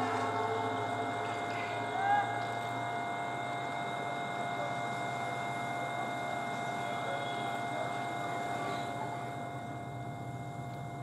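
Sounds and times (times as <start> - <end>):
low train rumble: 0.0 - 11.0.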